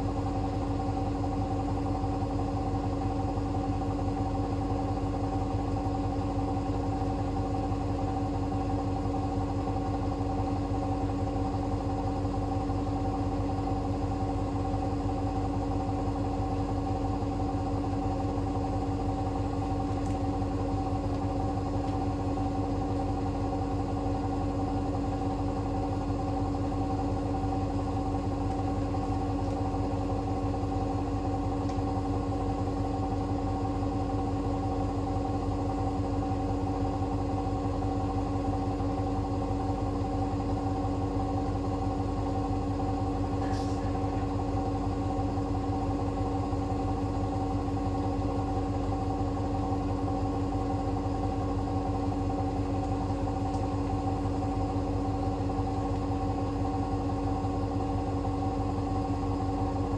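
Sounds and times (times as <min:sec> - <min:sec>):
washing machine motor hum and whine: 0:00.0 - 0:59.9.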